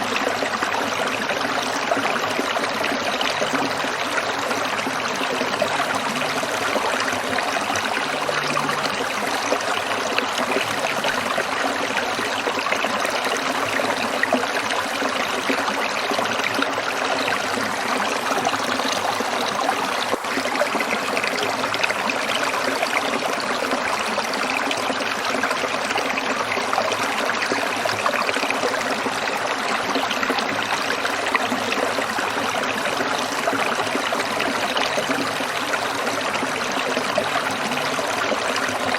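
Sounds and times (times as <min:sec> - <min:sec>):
water trickling over rocks: 0:00.0 - 0:38.9.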